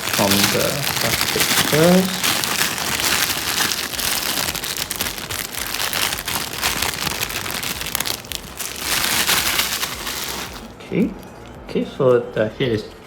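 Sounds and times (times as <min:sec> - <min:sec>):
plastic wrapping crinkling: 0:00.0 - 0:10.8.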